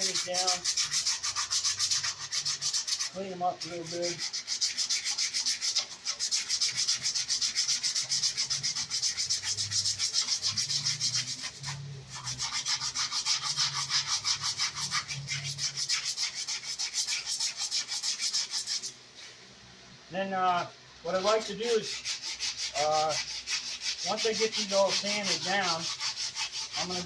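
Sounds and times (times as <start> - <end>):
sandpaper rubbing: 0.0 - 19.4, 21.1 - 27.0.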